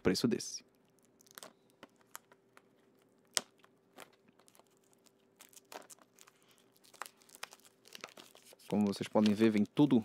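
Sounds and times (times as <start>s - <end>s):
plastic film crinkling: 0.8s - 10.0s.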